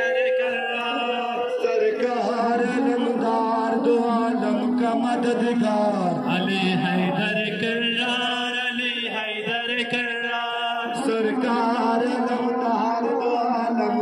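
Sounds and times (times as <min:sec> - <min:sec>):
young man chanting into microphone: 0:00.0 - 0:14.0.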